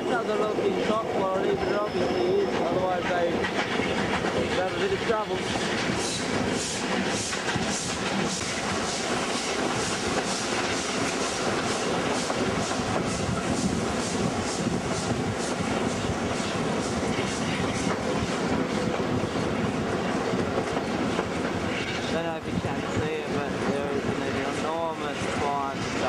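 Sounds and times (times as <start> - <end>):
rumble and clatter of carriages: 0.0 - 26.0
steam locomotive exhaust chuffs: 0.0 - 26.0.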